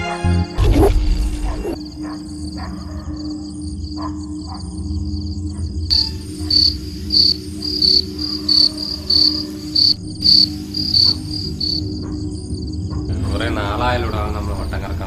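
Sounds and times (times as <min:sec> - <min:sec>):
crickets chirping: 0:00.7 - 0:15.0.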